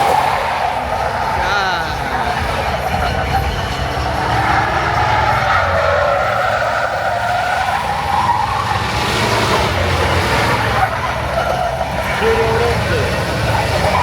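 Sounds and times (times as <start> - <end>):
car engine running low: 0.0 - 14.0
car tyres squealing: 0.0 - 14.0.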